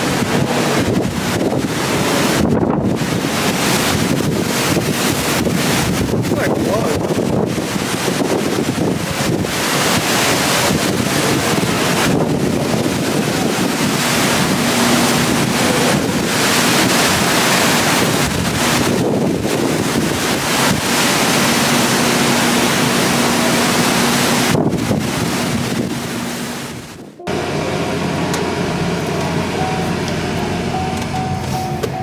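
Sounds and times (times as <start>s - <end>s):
strong wind gusts buffeting microphone: 0.0s - 32.0s.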